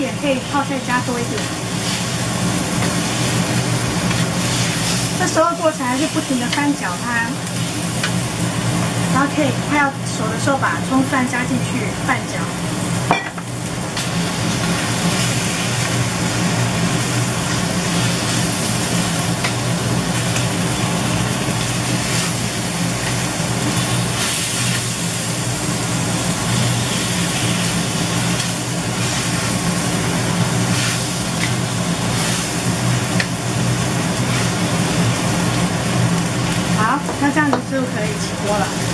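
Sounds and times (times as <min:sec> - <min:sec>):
food sizzling in a wok: 0:00.0 - 0:38.9
steady low hum: 0:00.0 - 0:38.9.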